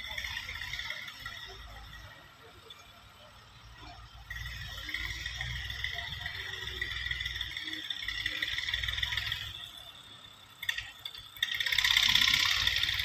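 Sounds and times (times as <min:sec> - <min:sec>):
distant tractor engine rumble: 0:00.0 - 0:13.0.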